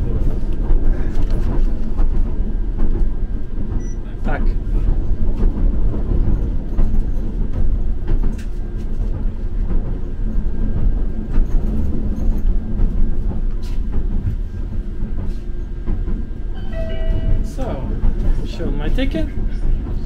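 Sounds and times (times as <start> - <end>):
rail clicks: 0.0 - 20.0
tram wheels rumbling on rails: 0.0 - 20.0.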